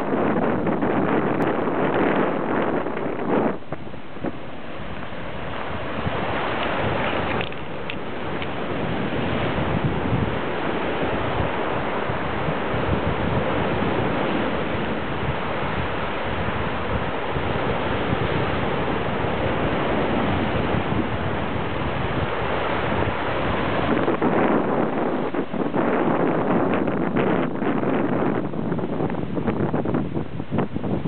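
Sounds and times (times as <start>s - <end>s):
sea waves surging and breaking: 0.0s - 31.0s
wind buffeting microphone: 0.0s - 31.0s.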